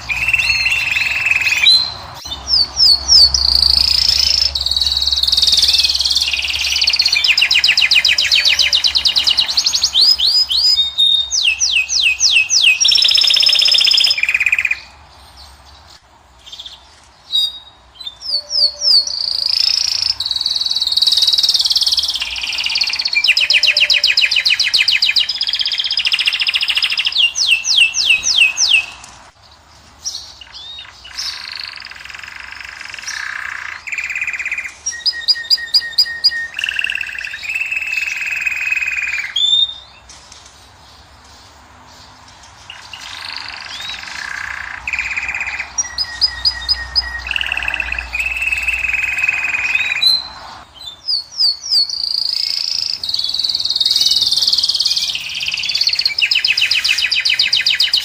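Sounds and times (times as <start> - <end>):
finch singing: 0.0 - 58.0.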